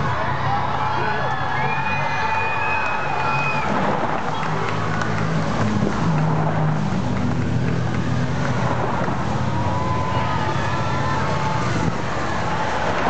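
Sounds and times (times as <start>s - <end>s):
vehicles passing engine hum: 0.0s - 13.0s.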